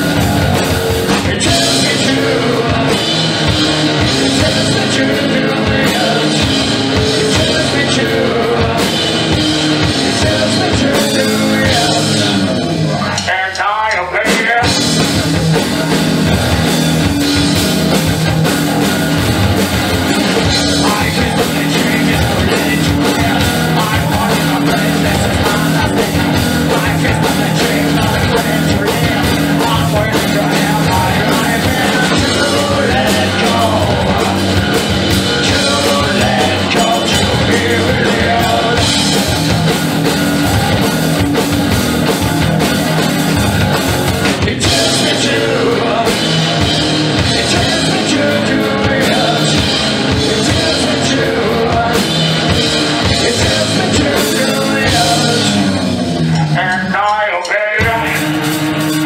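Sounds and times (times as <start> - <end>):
drum kit and cymbals: 0.0 - 59.0
live rock band playing: 0.0 - 59.0.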